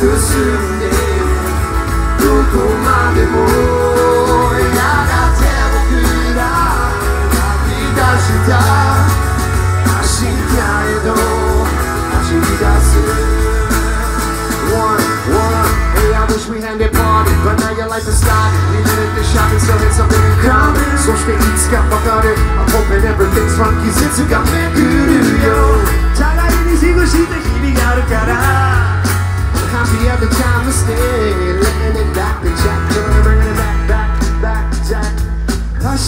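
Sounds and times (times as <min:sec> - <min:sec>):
person singing: 0:00.0 - 0:36.0
pop-rock band playing live: 0:00.0 - 0:36.0.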